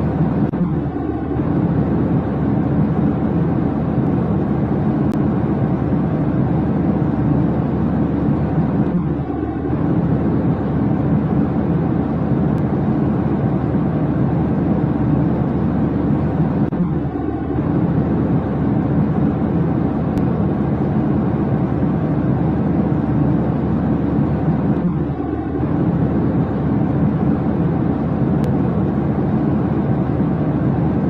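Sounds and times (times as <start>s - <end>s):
jet airliner rumble: 0.0s - 31.0s.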